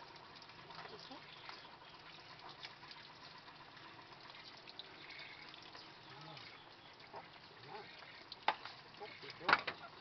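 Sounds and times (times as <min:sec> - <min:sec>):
water trickling in a sink: 0:00.0 - 0:10.0.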